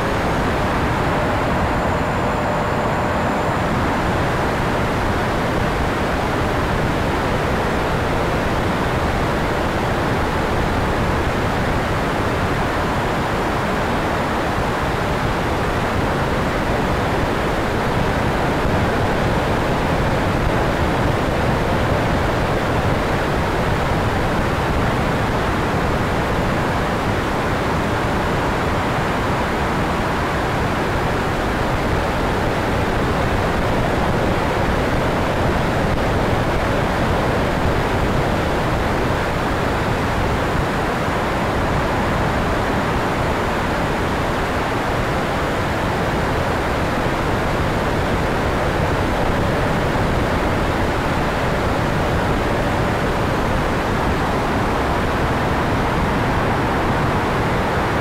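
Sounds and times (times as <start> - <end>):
ducted fan whine: 0.0 - 58.0.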